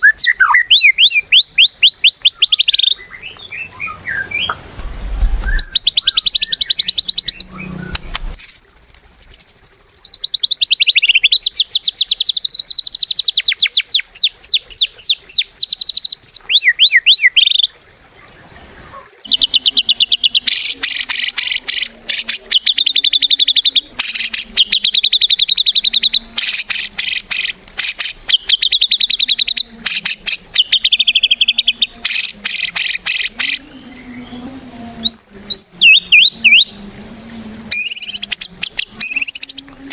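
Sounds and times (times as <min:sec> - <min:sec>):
bird singing rapid trills: 0:00.0 - 0:04.5, 0:05.4 - 0:39.8.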